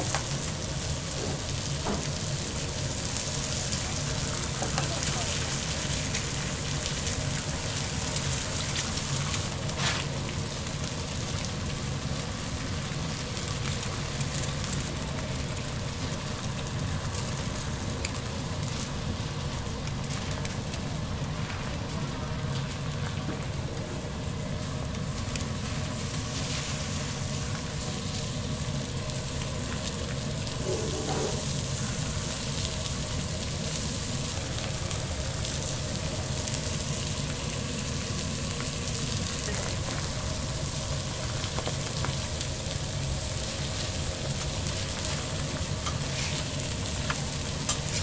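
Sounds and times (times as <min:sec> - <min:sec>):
eggs sizzling on a griddle: 0:00.0 - 0:48.0.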